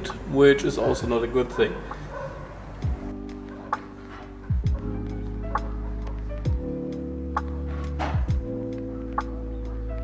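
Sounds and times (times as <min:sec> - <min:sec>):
background music of held notes: 0:01.9 - 0:10.0.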